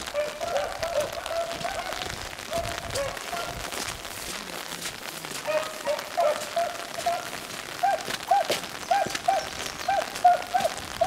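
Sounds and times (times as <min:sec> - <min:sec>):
beagles barking: 0:00.0 - 0:03.8, 0:05.4 - 0:11.0
rain pattering: 0:00.0 - 0:11.0.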